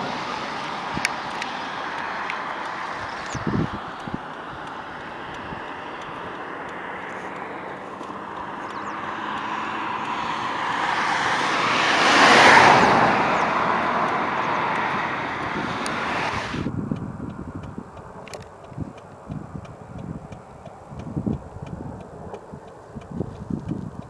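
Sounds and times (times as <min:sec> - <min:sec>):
vehicle passing by: 0:00.0 - 0:24.0.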